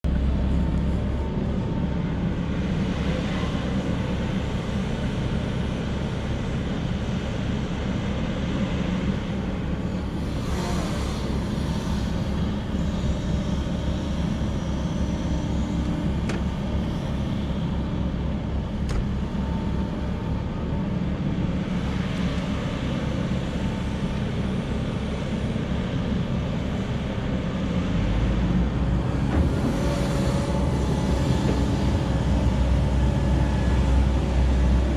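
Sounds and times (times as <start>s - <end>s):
heavy diesel machinery rumbling: 0.0s - 34.9s.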